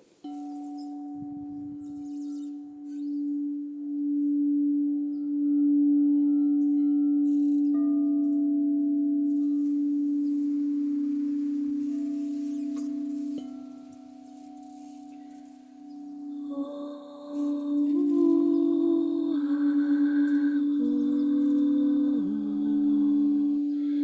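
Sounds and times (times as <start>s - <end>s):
singing bowls ringing: 0.0s - 24.0s.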